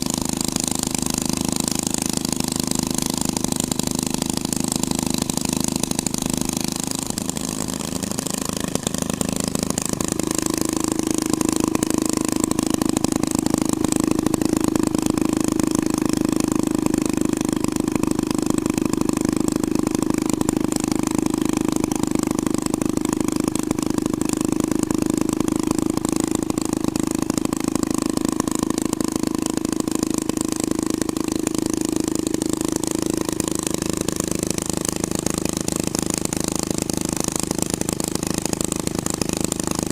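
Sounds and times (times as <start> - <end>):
hot rod engine running: 0.0 - 39.9.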